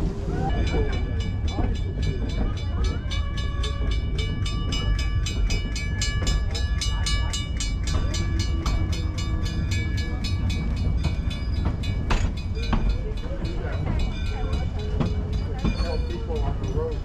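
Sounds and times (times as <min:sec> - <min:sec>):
train rumbling along track: 0:00.0 - 0:17.0
crossing signal bell ringing: 0:00.3 - 0:17.0.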